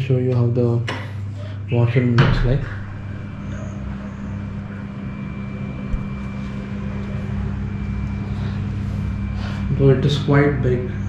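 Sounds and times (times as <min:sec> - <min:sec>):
low machine hum: 0:00.0 - 0:11.0
faint high whine: 0:01.2 - 0:11.0.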